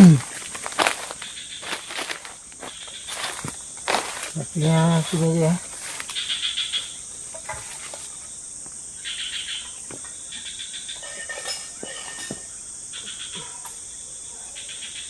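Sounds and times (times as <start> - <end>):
high-pitched insect whine: 0.0 - 15.0
insects chirping in trills: 0.0 - 15.0.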